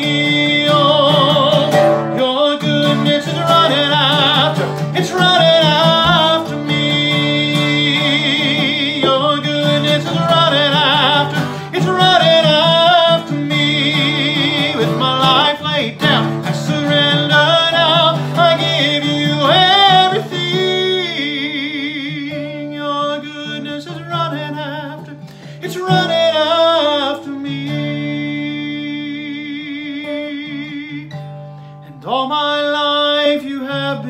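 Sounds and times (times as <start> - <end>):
man singing with vibrato: 0.0 - 34.0
strummed acoustic guitar: 0.0 - 34.0.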